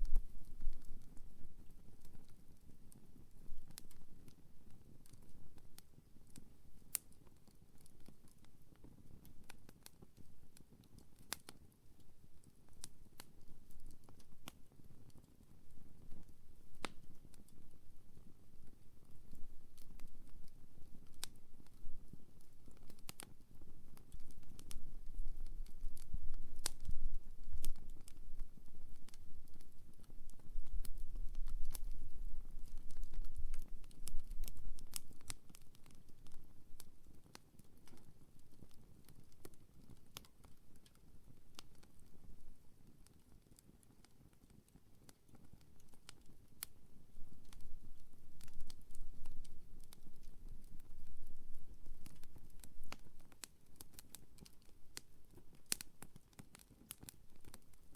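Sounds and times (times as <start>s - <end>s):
low fire rumble: 0.0s - 11.4s, 12.0s - 57.9s
campfire crackling and popping: 0.0s - 57.9s.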